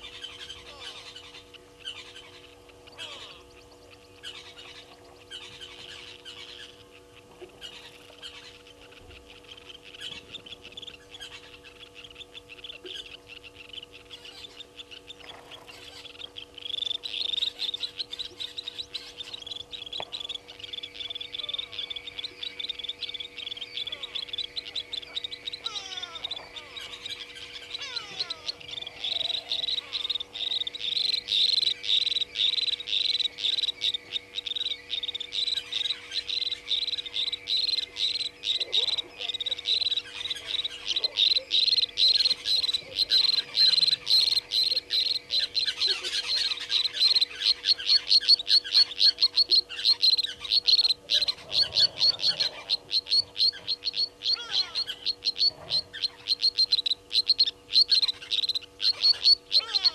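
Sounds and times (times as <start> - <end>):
chorus of chirping animals: 0.0 - 59.9
faint electrical hum: 0.0 - 59.9.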